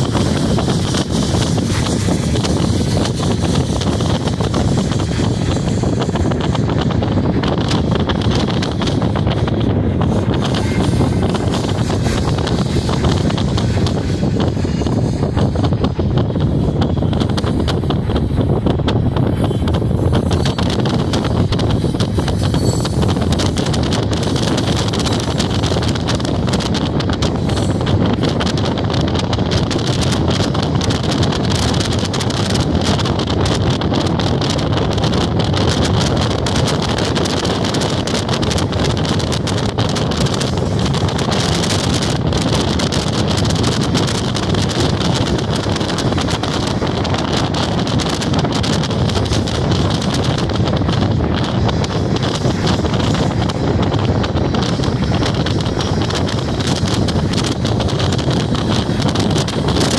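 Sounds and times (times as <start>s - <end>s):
freight train rolling past: 0.0s - 59.9s
wind buffeting microphone: 0.0s - 59.9s.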